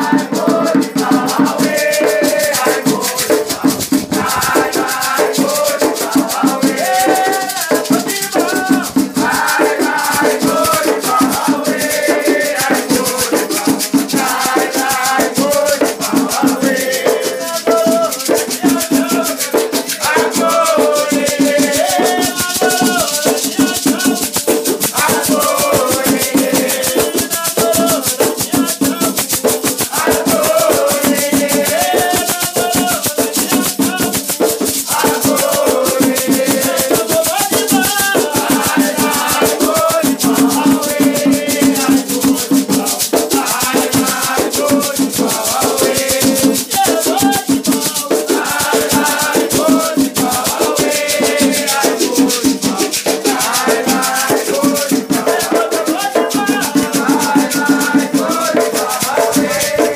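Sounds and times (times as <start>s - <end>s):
shakers rattling: 0.0s - 59.9s
voices singing a chant: 0.0s - 59.9s.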